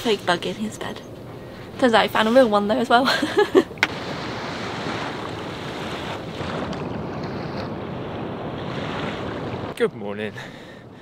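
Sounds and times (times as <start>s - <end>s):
wind on microphone: 0.0s - 9.8s
small waves on a sandy shore: 0.0s - 11.0s.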